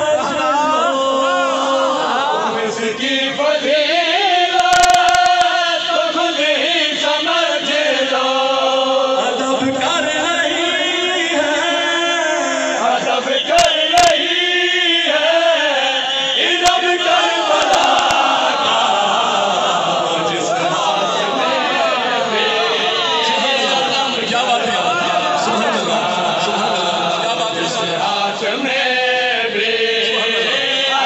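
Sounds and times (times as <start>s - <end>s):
crowd of men voicing along: 0.0s - 31.0s
man chanting into a microphone: 0.0s - 31.0s.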